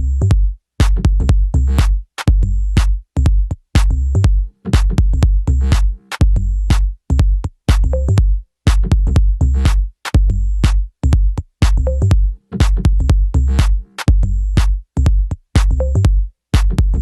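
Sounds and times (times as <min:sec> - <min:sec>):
electronic music with drum beat: 0:00.0 - 0:17.0.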